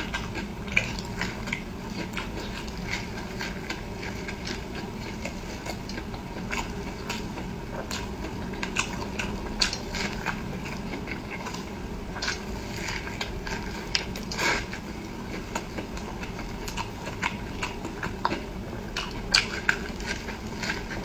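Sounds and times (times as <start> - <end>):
chewing with wet mouth clicks: 0.0 - 21.0
low background hum: 0.0 - 21.0.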